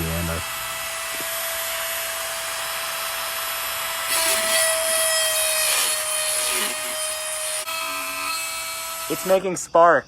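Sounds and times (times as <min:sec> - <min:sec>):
power tool whining: 0:00.0 - 0:09.8.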